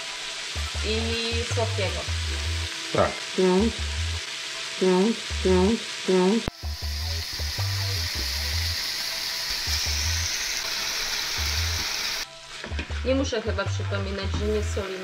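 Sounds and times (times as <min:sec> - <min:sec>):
meat sizzling in hot fat: 0:00.0 - 0:15.0
background music with low beat: 0:00.1 - 0:04.2, 0:06.5 - 0:15.0.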